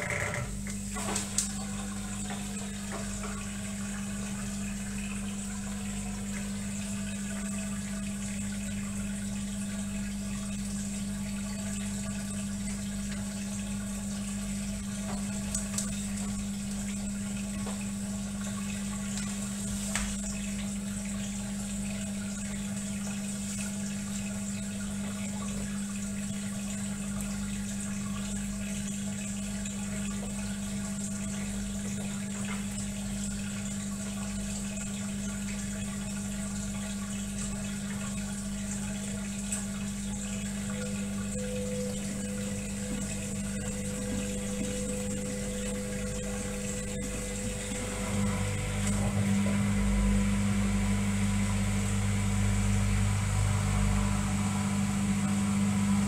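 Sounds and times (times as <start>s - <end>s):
low machine hum: 0.0s - 56.0s
water running in washing machine: 0.0s - 56.0s.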